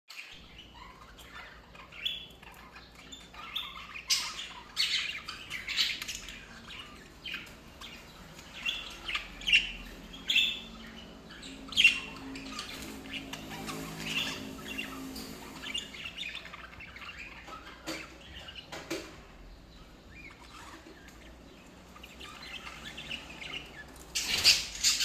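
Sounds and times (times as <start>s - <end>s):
budgerigars chirping: 0.1s - 25.0s.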